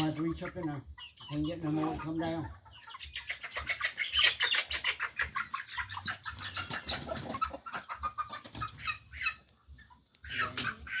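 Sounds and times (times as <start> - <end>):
chickens clucking and squawking: 0.0 - 11.0.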